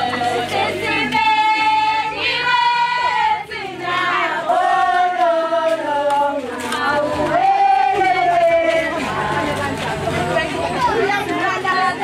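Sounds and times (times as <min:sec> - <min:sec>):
women and girls singing: 0:00.0 - 0:12.0.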